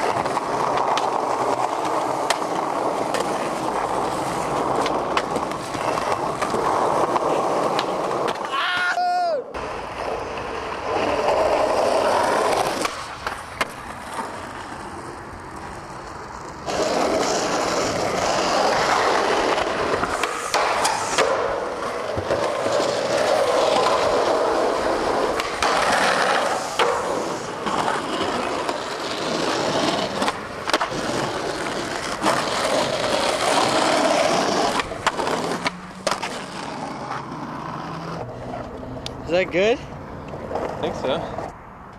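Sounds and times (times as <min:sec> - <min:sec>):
skateboard popping and landing: 0:00.0 - 0:39.1
skateboard wheels rolling: 0:00.0 - 0:41.9.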